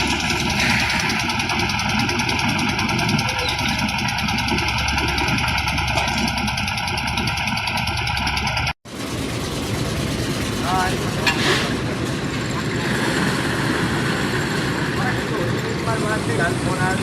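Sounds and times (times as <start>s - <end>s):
concrete mixer running: 0.0s - 17.0s.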